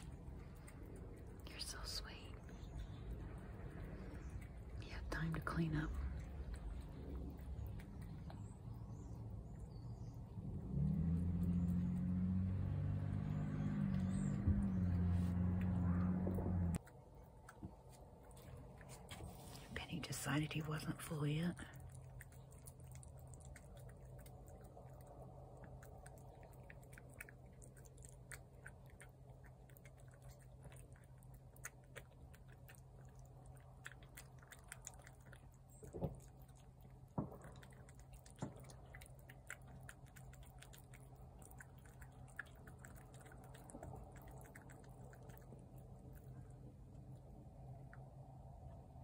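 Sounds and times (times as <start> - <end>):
cats chewing and crunching: 0.0 - 49.0
low steady hum: 0.0 - 49.0.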